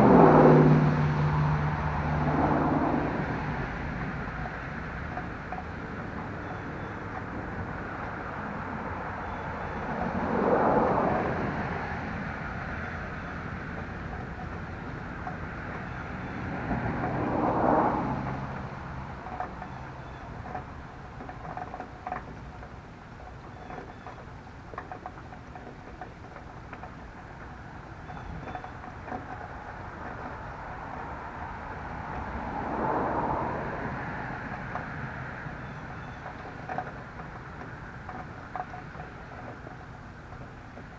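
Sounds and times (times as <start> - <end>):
outdoor background noise: 0.0 - 40.9
vehicles passing by: 0.0 - 40.9.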